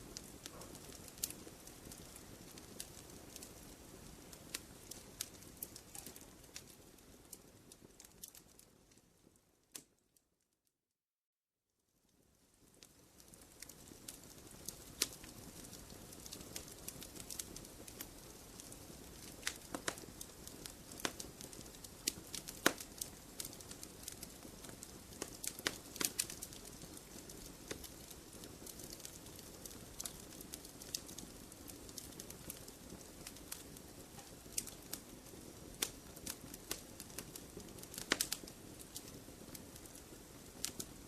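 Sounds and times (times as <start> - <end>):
wood fire crackling: 0.0 - 10.1, 12.1 - 41.0.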